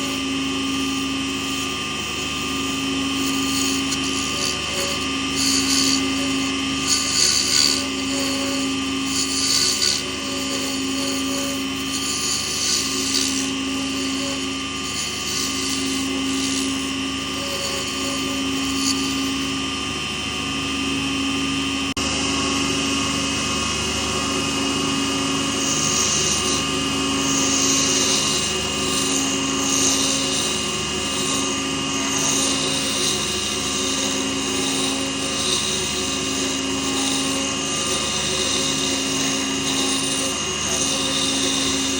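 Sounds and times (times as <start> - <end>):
tool hissing on wood: 0.0 - 19.9, 24.0 - 41.9
lathe humming: 0.0 - 41.9.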